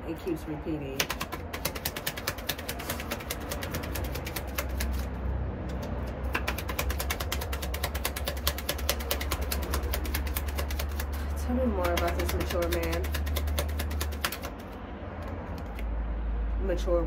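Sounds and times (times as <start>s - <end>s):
cards being shuffled: 1.0s - 15.9s.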